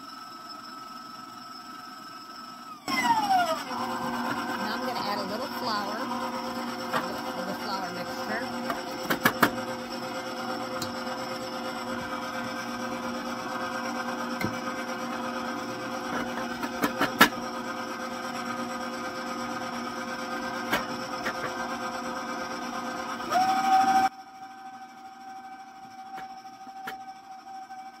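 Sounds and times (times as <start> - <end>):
stand mixer motor humming: 0.0 - 28.0.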